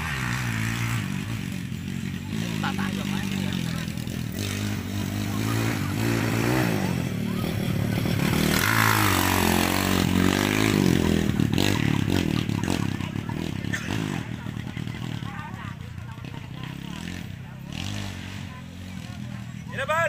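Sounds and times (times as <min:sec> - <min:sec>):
dirt bike engine revving past: 0:00.0 - 0:19.6.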